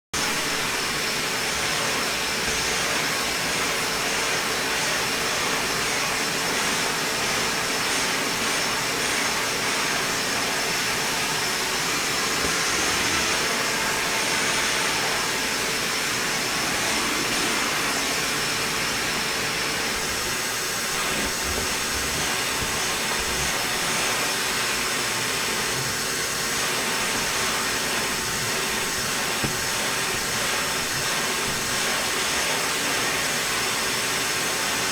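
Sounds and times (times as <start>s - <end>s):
vacuum cleaner running: 0.2s - 34.9s.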